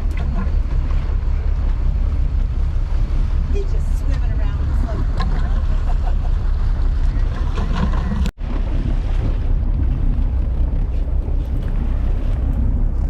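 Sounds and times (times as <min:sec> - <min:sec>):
boat motor running: 0:00.0 - 0:13.0
water rushing past hull: 0:00.0 - 0:13.0
wind buffeting microphone: 0:00.0 - 0:13.0.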